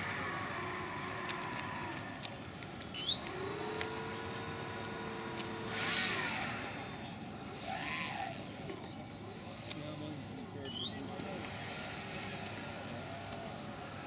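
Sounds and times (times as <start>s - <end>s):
model plane motors whining: 0.0s - 14.0s.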